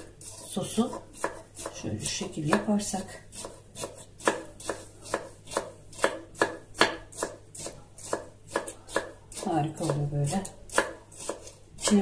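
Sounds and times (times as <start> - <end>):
knife chopping on wooden board: 0.0 - 2.7, 3.3 - 12.0.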